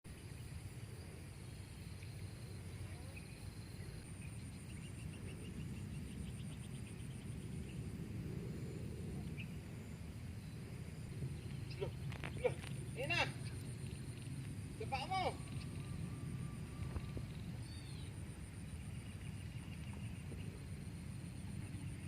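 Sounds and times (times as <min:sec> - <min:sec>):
insects trilling: 0:00.1 - 0:22.0
low steady rumble: 0:00.1 - 0:22.0.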